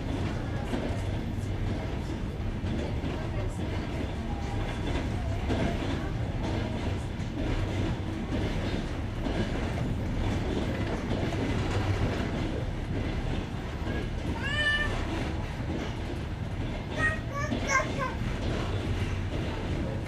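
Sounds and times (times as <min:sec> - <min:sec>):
train wheels clattering over rails: 0:00.0 - 0:20.0.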